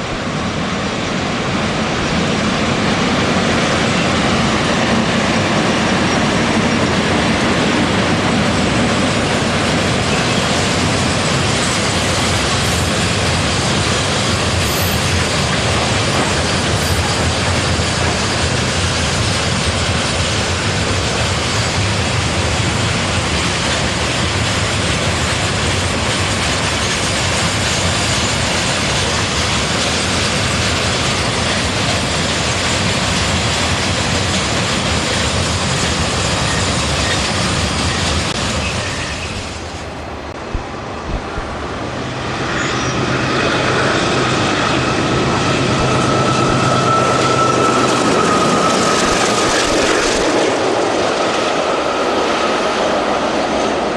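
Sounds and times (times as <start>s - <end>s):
diesel locomotive engine humming: 0.0s - 53.9s
passing diesel train: 0.0s - 53.9s.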